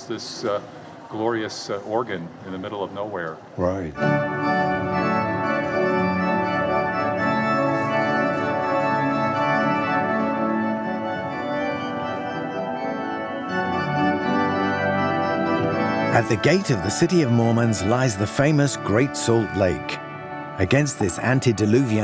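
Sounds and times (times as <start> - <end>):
pipe organ playing chords: 3.9 - 22.0.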